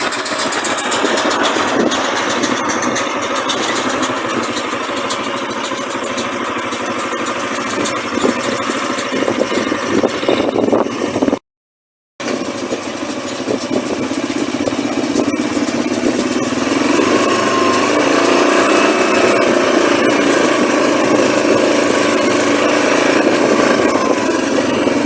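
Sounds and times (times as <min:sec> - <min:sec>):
tractor engine running: 0:00.0 - 0:11.4, 0:12.2 - 0:25.0.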